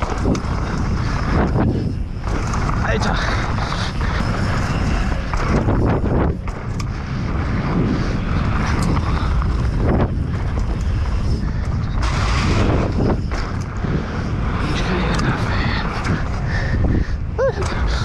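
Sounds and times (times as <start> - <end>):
bike knocks and rattles: 0.0 - 18.0
tyres rumbling on dirt trail: 0.0 - 18.0
wind rushing over microphone: 0.0 - 18.0.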